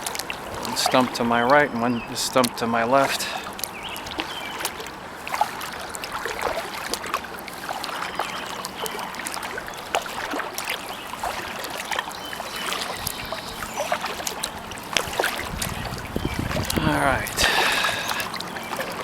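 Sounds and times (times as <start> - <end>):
paddle splashing water: 0.0 - 19.0
water dripping: 0.0 - 19.0.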